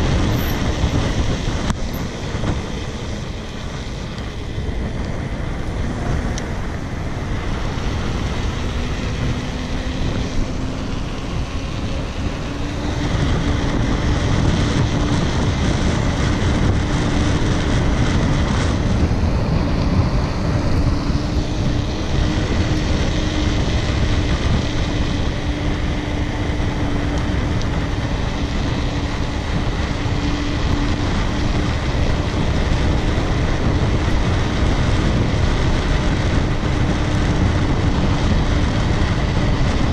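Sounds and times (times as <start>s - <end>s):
bike tyres rolling on asphalt: 0.0s - 39.9s
wind rushing over microphone: 0.0s - 39.9s.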